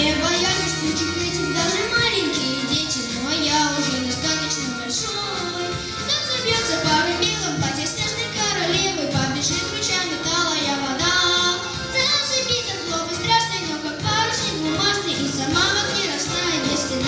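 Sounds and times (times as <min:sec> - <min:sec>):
child singing: 0:00.0 - 0:17.0
instrumental accompaniment: 0:00.0 - 0:17.0.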